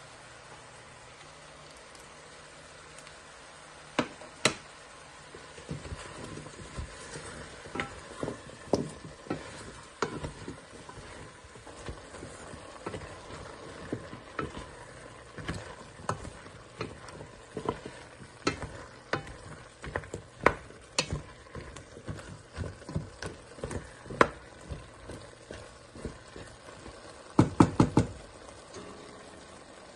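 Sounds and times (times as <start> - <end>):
wooden spoon stirring in metal pot: 5.2 - 29.4.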